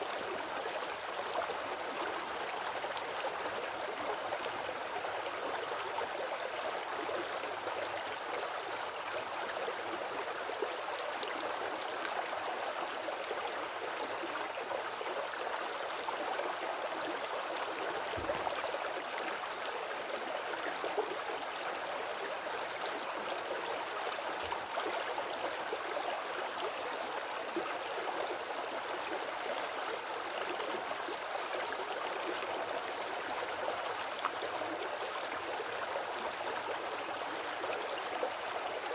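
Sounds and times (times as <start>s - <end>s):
creek water rushing and gurgling: 0.0s - 38.9s.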